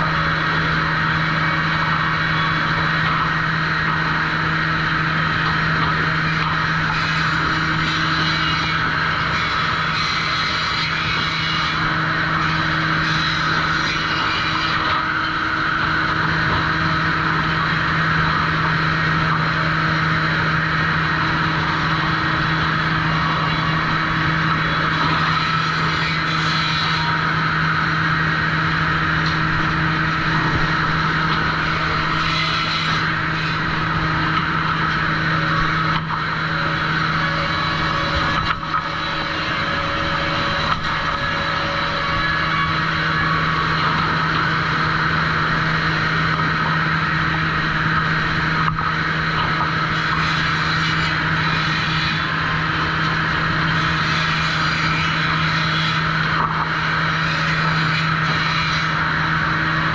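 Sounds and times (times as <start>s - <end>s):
saw machinery hum and whine: 0.0s - 59.9s.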